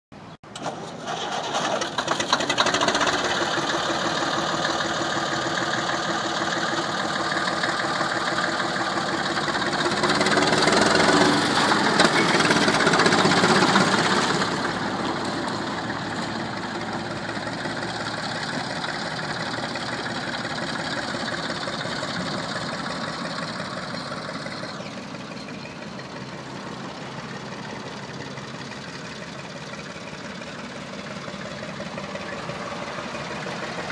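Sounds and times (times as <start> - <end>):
tractor diesel engine clattering: 0.2 - 33.9.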